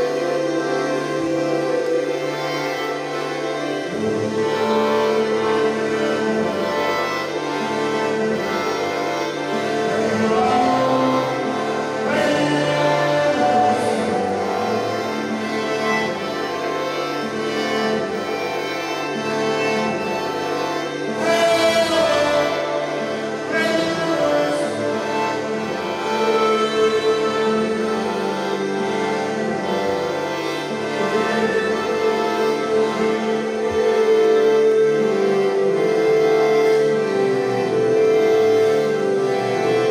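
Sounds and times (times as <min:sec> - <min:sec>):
gliding notes: 0:00.0 - 0:39.9
layered sustained pitched tones: 0:00.0 - 0:39.9.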